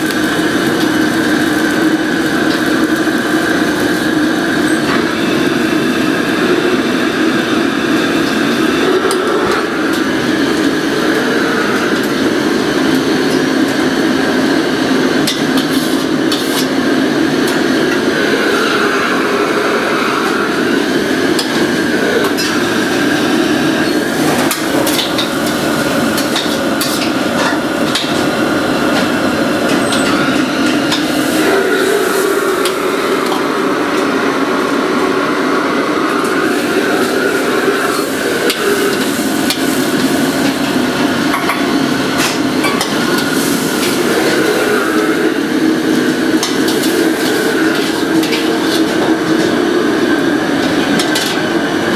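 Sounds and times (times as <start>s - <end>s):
wok range roaring: 0.0s - 51.9s.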